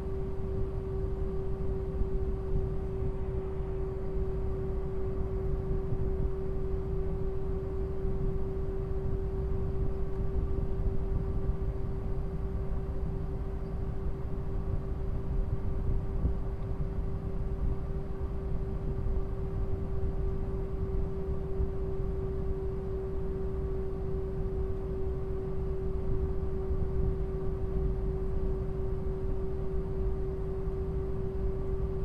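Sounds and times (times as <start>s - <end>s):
airliner cabin rumble: 0.0s - 32.0s
mid-pitched hum: 0.0s - 32.0s.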